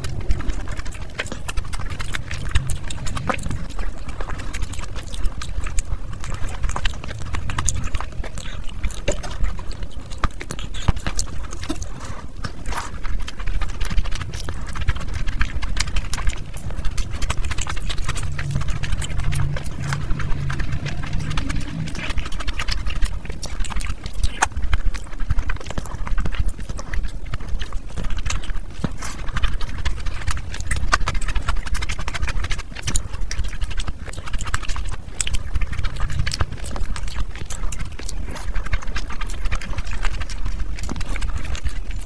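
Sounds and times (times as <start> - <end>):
wet chewing and lip-smacking: 0.0 - 42.0.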